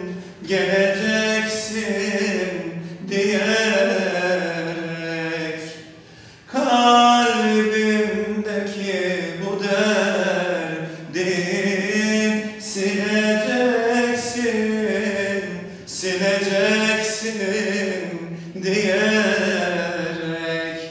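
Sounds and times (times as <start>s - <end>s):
man singing unaccompanied: 0.0s - 20.9s.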